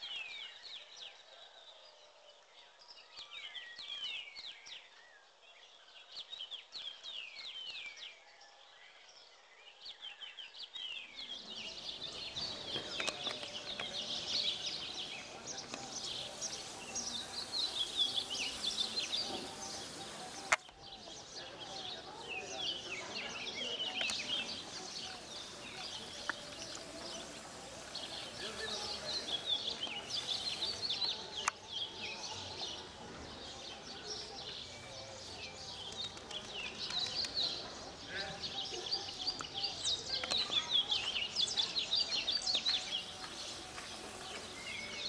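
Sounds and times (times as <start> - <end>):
birds chirping and twittering: 0.0 - 45.0
faint distant voices: 0.0 - 45.0.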